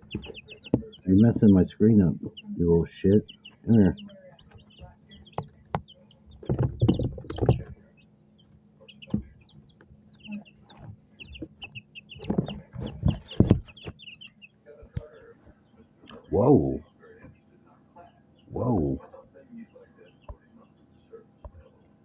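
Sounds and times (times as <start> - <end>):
pet birds cheeping: 0.0 - 22.0.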